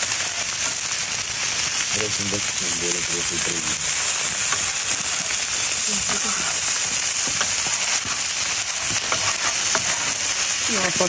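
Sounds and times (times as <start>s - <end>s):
beef sizzling on a griddle: 0.0s - 11.0s
fat crackling and popping: 0.0s - 11.0s.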